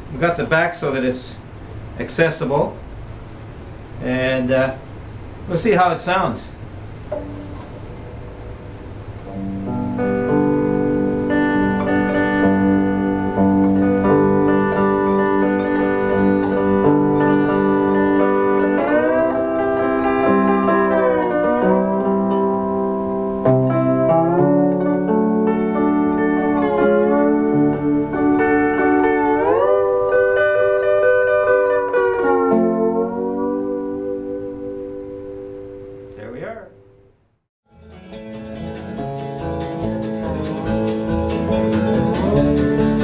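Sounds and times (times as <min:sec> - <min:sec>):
slide guitar: 0:07.0 - 0:36.8, 0:37.7 - 0:43.0.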